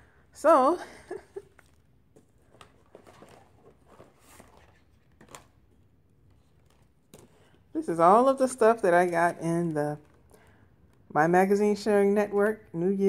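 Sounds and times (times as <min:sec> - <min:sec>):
boxes and packets rustling: 0:00.5 - 0:11.1.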